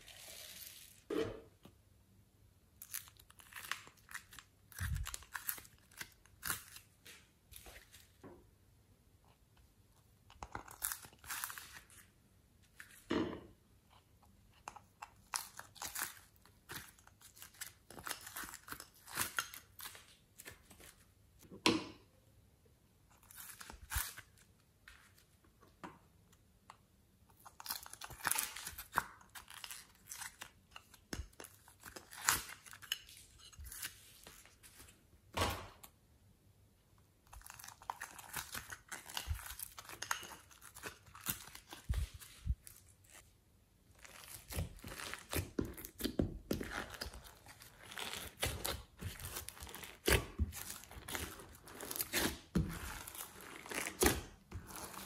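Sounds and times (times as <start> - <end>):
slime and clay crackling by hand: 2.6 - 21.6, 23.0 - 36.0, 36.9 - 55.0.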